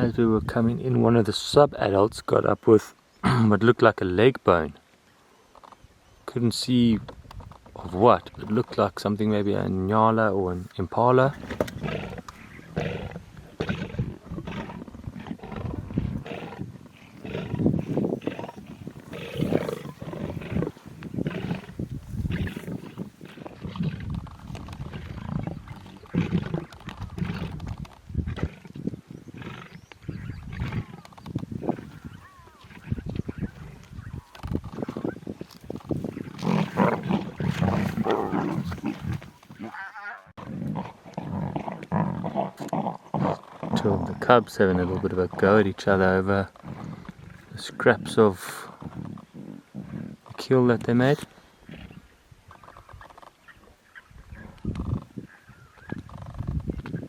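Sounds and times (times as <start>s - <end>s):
lion cubs growling: 7.4s - 57.0s.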